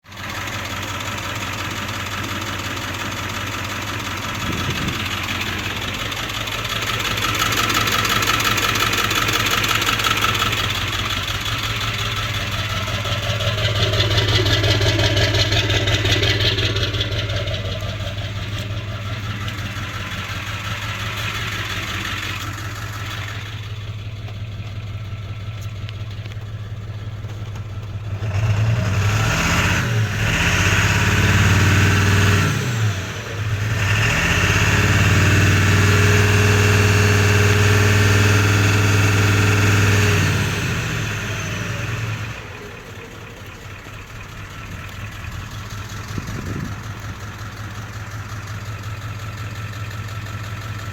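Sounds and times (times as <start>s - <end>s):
diesel engine idling roughly: 0.0s - 50.9s.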